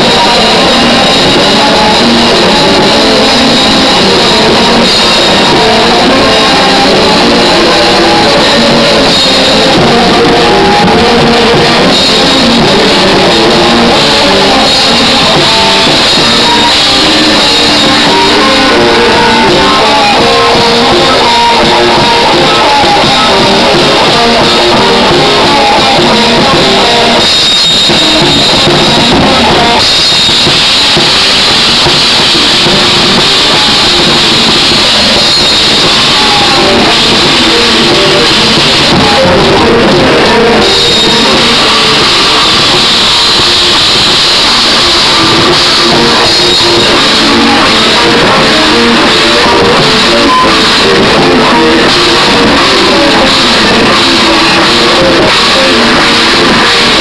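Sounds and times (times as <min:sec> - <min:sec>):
metalcore band playing: 0:00.0 - 0:57.0.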